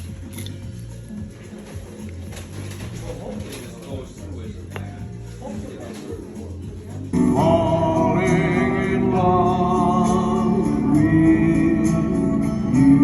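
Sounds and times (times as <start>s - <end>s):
background music with singing: 0.0s - 13.0s.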